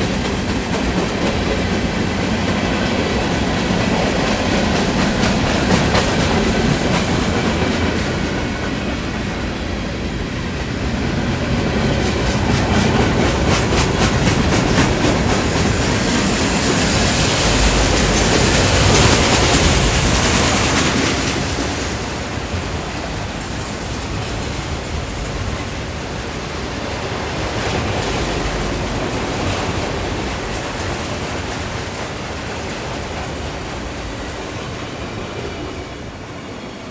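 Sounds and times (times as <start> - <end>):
wheels clacking over rails: 0.0 - 36.1
freight train cars rumbling: 0.0 - 36.9.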